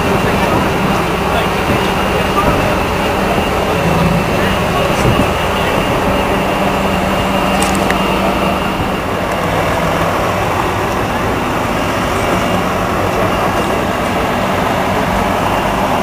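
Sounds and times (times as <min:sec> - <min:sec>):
crowd chatter: 0:00.0 - 0:16.0
diesel engine drone: 0:00.0 - 0:16.0.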